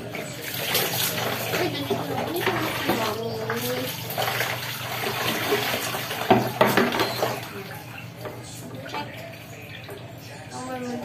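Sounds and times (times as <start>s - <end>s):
water splashing: 0.0s - 10.2s.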